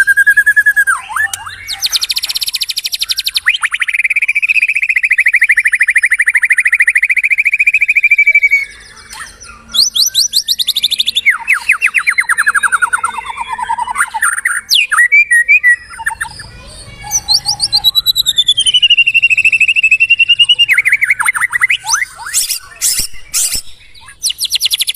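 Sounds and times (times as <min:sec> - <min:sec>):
bird singing trills and whistles: 0:00.0 - 0:24.9.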